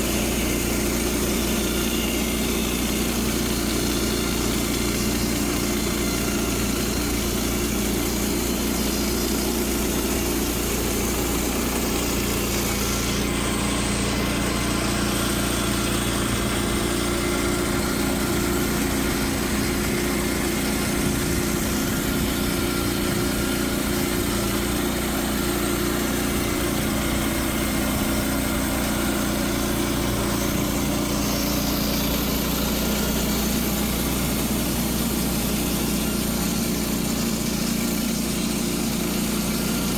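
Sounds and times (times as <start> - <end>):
band sawmill gas engine running: 0.0 - 39.9.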